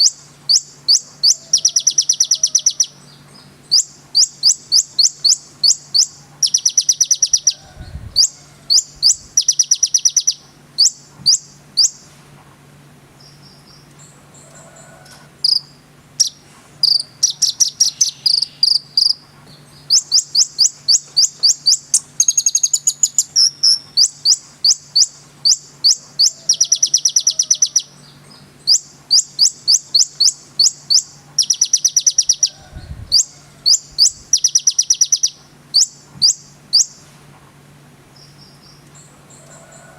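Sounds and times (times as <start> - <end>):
bird singing high chirps: 0.0 - 7.6, 8.2 - 12.1, 15.4 - 37.0
faint low hum: 0.0 - 39.9.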